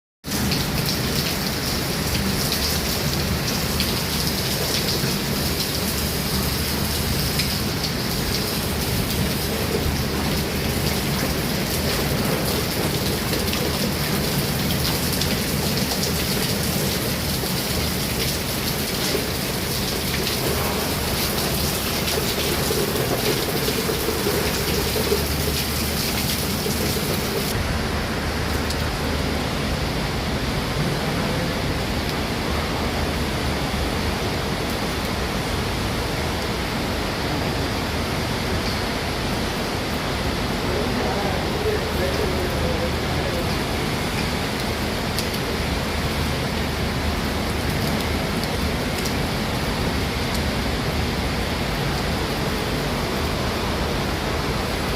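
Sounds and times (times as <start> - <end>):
heavy rain falling: 0.2 - 54.9.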